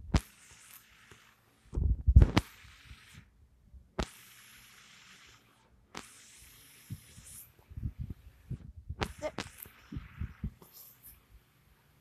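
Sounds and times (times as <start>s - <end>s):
hiss: 0.2s - 3.4s, 4.0s - 11.5s.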